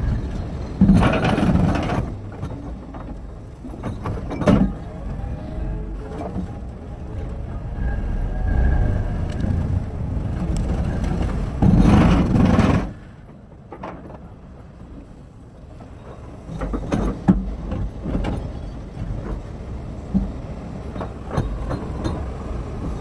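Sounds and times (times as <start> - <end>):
excavator engine rumble: 0.0 - 23.0.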